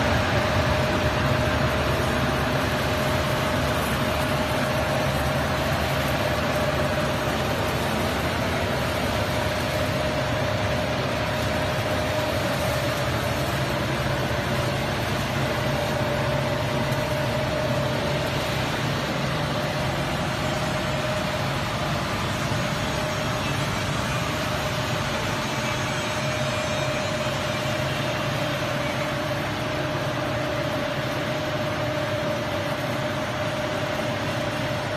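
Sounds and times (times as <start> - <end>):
blower fan rushing: 0.0 - 34.9.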